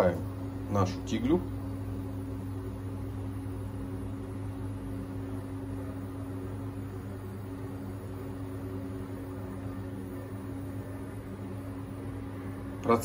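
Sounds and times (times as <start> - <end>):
extractor fan humming: 0.0 - 13.0.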